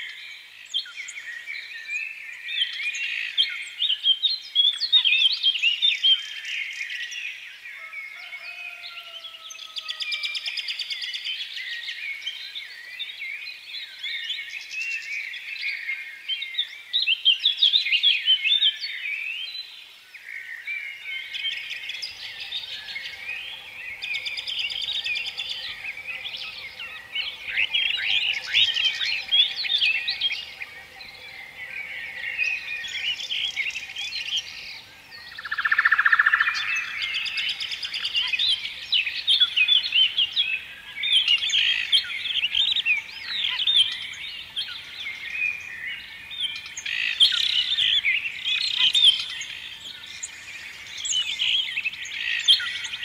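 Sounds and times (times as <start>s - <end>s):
chorus of small birds chirping: 0.0s - 53.0s.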